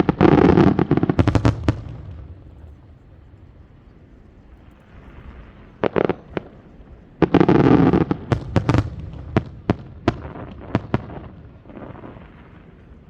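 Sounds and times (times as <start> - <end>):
fireworks bangs: 0.0 - 3.5, 4.6 - 13.0.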